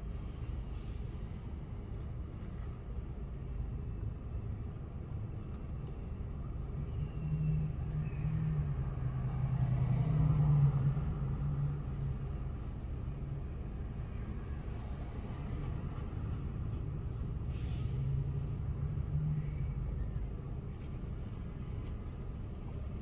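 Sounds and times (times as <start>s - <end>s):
city traffic rumble: 0.0s - 23.0s
vehicle engine hum: 0.0s - 23.0s.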